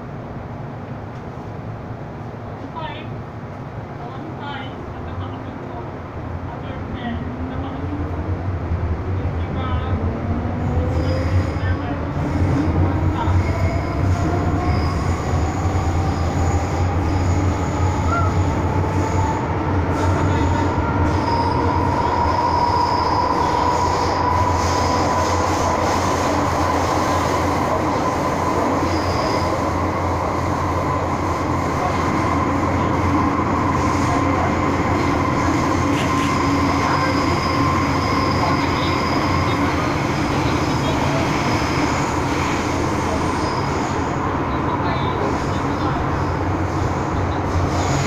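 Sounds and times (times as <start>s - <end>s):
subway train wheels rumbling: 0.0s - 48.0s.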